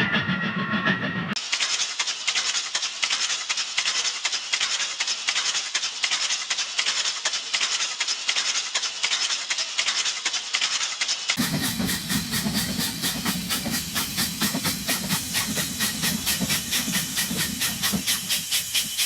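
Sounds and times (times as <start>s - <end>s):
steam locomotive chuffing: 0.0s - 19.0s.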